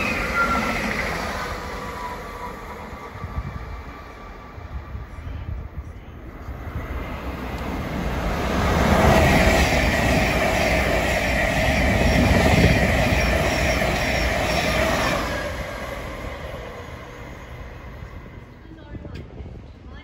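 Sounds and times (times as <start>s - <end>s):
electric train whine: 0.0s - 19.2s
train wheels rumbling on rails: 0.0s - 20.0s.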